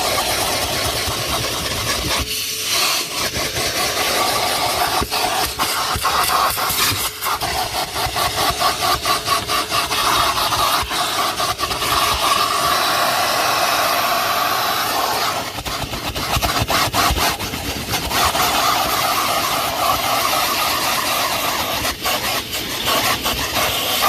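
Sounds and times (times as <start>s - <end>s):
vacuum cleaner motor whine: 0.0s - 24.0s
vacuum nozzle scraping and clicking: 0.0s - 24.0s.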